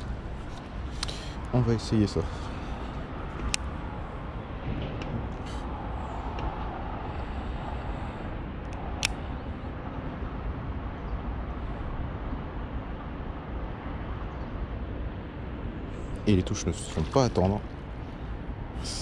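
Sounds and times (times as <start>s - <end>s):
outdoor background rumble: 0.0s - 19.0s.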